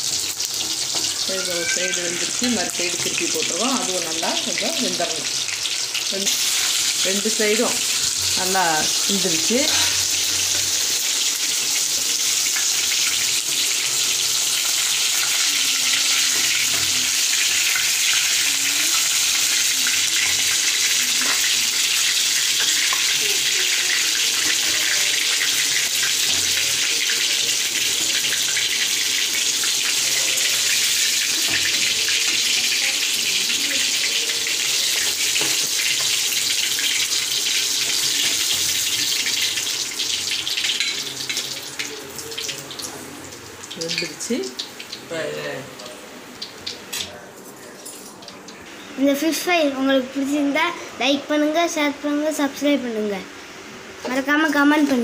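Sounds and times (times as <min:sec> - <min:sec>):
fish sizzling in hot oil: 0:00.0 - 0:47.2.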